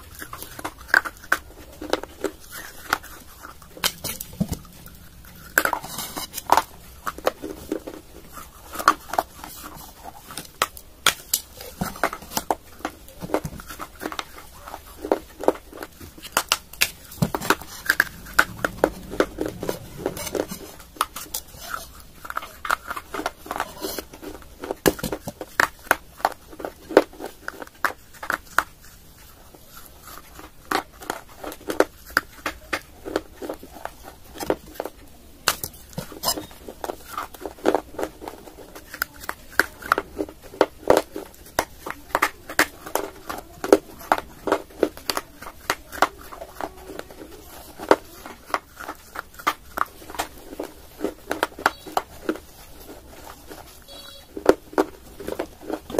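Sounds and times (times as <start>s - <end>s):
clay pot crunching when chewed: 0.0s - 55.9s.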